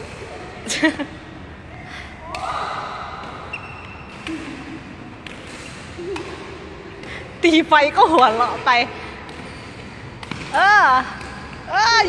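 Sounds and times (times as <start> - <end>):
rackets hitting shuttlecock: 2.2 - 12.0.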